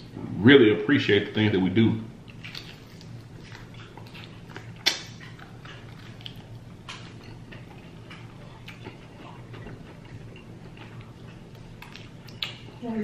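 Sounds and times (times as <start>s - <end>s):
low steady hum: 0.0s - 13.0s
eating mouth clicks and smacks: 2.3s - 12.8s.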